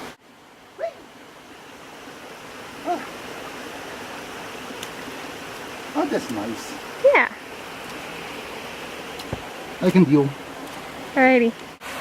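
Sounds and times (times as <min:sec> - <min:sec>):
waterfall and creek rushing: 0:00.0 - 0:12.0.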